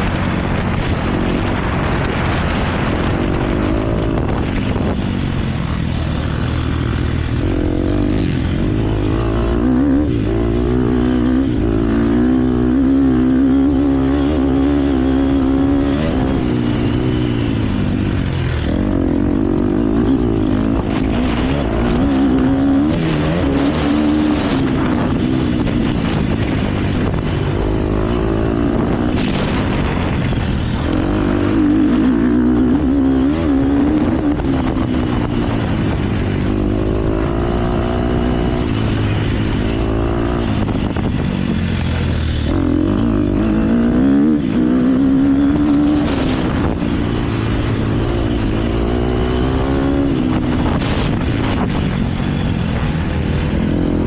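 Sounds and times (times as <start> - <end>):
motocross bike engine revving: 0.0 - 54.0
wind rush: 0.0 - 54.0.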